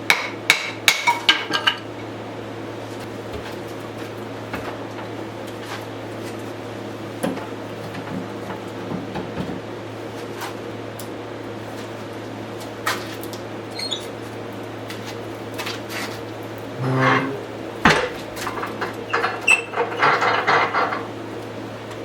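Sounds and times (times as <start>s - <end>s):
steady low hum: 1.9s - 22.0s.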